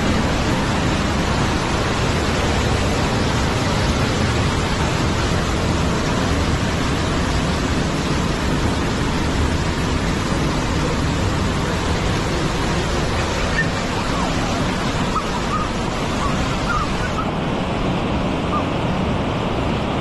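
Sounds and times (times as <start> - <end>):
loud steady rushing hiss: 0.0 - 20.0.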